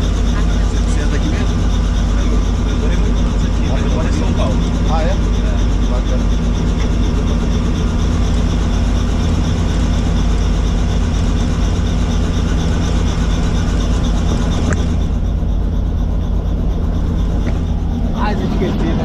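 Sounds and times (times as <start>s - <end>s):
helicopter rotor drone: 0.0s - 19.0s.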